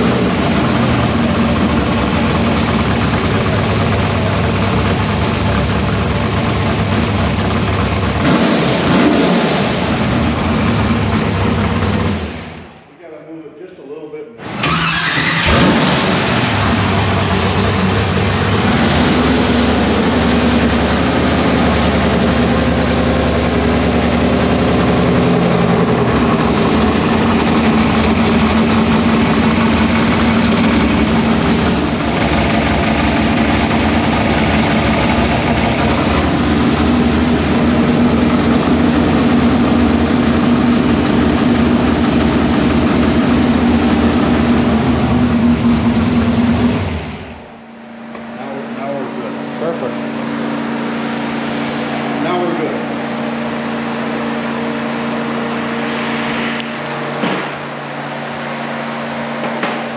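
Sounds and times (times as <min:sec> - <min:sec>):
vee eight engine idling: 0:00.0 - 0:09.1, 0:09.7 - 0:12.9, 0:14.7 - 0:59.9.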